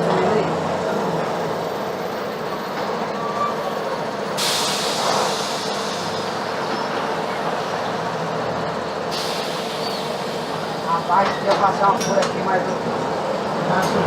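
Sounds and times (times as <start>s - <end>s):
bus diesel engine: 0.0s - 14.0s
road noise: 0.0s - 14.0s.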